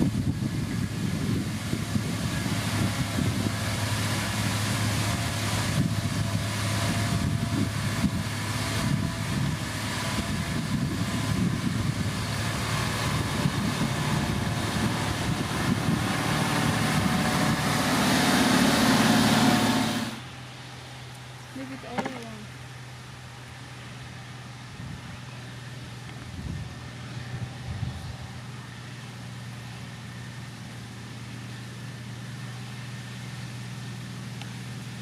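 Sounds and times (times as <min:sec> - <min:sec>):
heavy diesel machinery rumbling: 0:00.0 - 0:35.0.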